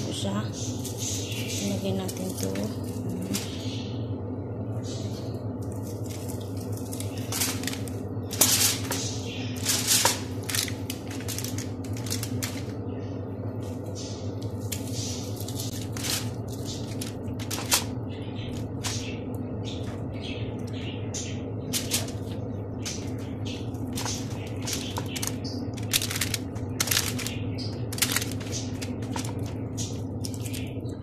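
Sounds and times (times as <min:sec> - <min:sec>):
low hum: 0:00.0 - 0:31.0
food and foil rustling: 0:00.6 - 0:03.7, 0:05.0 - 0:12.8, 0:13.6 - 0:19.1, 0:21.6 - 0:31.0.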